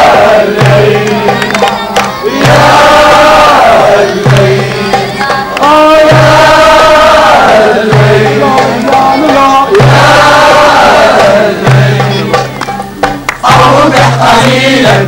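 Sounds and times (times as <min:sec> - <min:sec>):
drum beats: 0:00.0 - 0:15.0
group singing: 0:00.0 - 0:15.0.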